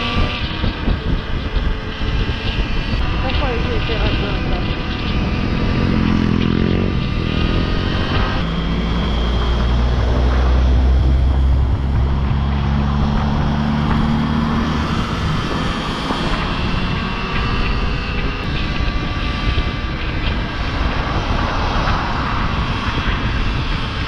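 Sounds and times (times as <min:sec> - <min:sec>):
electric motor hum: 0:00.0 - 0:24.0
wind rushing over microphone: 0:00.0 - 0:24.0.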